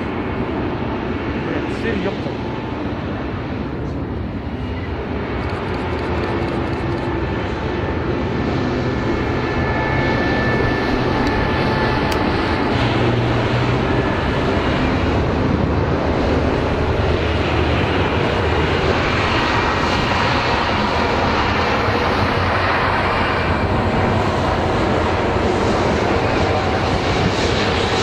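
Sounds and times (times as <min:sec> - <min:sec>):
helicopter turbine and rotor: 0:00.0 - 0:28.0.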